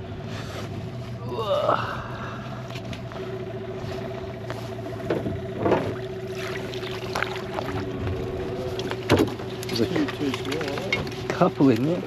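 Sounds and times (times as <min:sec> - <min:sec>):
small boat motor whining: 0:00.0 - 0:12.0.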